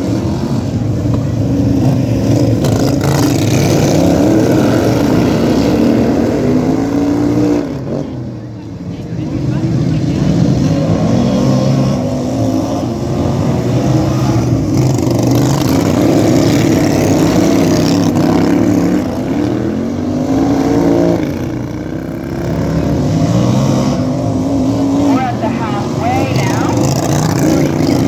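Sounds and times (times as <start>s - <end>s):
racing lawn tractor engines: 0.0s - 28.0s.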